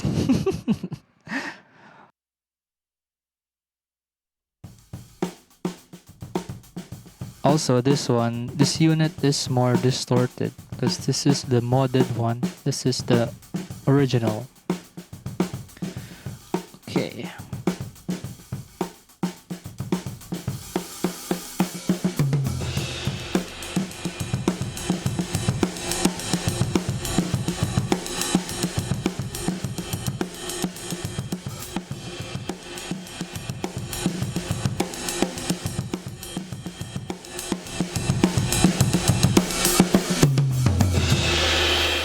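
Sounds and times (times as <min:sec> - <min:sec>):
drum kit groove: 0:04.6 - 0:42.0.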